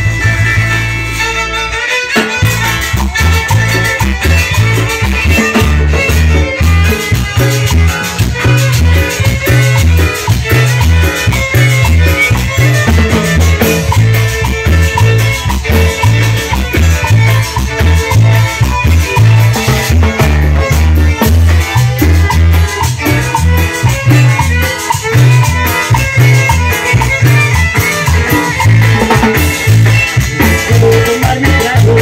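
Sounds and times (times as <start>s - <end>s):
bouncing bass line: 0.0s - 32.0s
congas: 0.0s - 32.0s
drum kit: 0.0s - 32.0s
guitar: 0.0s - 32.0s
violins: 0.0s - 32.0s.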